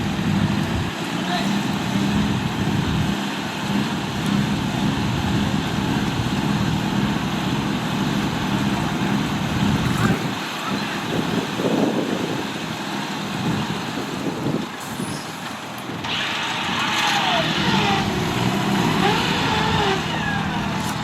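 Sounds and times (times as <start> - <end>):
off-road vehicle engine droning: 0.0 - 21.0
rough shifting noise: 0.0 - 21.0.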